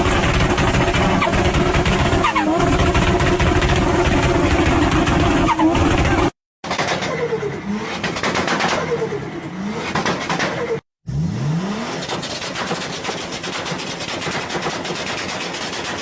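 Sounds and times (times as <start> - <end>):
car engines revving: 0.0 - 15.1.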